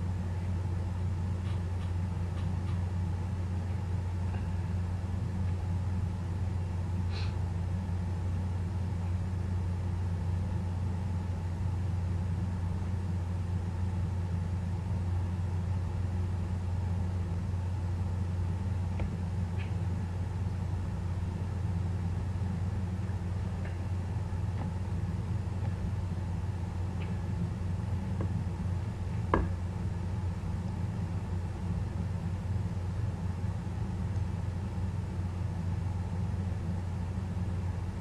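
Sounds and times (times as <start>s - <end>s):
low equipment hum: 0.0s - 38.0s.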